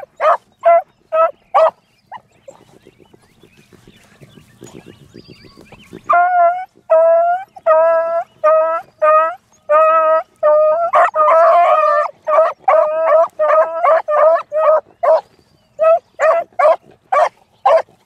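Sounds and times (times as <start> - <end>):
dogs baying: 0.0 - 18.0.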